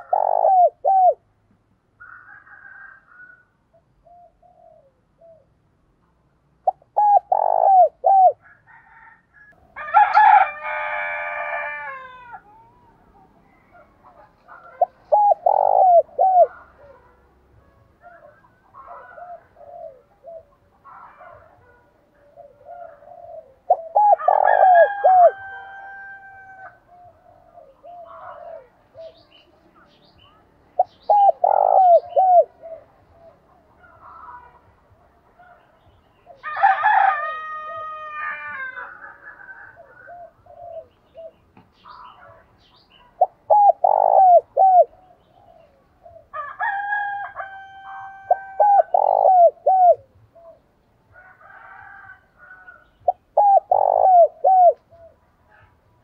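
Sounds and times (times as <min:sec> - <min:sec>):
dove cooing: 0:00.0 - 0:01.3, 0:02.0 - 0:05.6, 0:06.6 - 0:09.2, 0:09.9 - 0:17.3, 0:18.0 - 0:34.6, 0:35.4 - 0:42.4, 0:43.0 - 0:50.6, 0:51.3 - 0:55.8.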